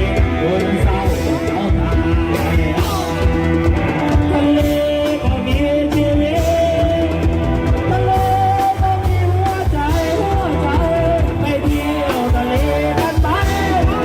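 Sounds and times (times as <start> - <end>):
bass: 0.0 - 14.0
steady drum beat: 0.0 - 14.0.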